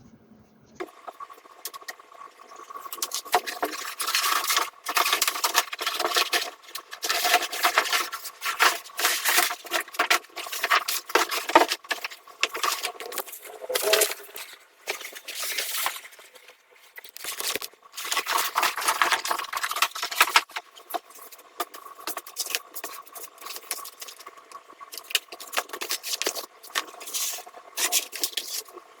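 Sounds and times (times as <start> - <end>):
packaging and vinyl crinkling: 2.8 - 29.0.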